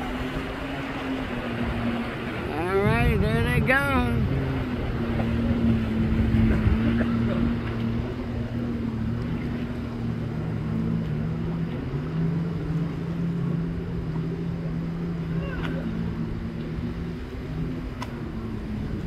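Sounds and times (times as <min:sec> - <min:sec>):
jet ski engine drone: 0:00.0 - 0:19.0
wind and water noise: 0:00.0 - 0:19.0.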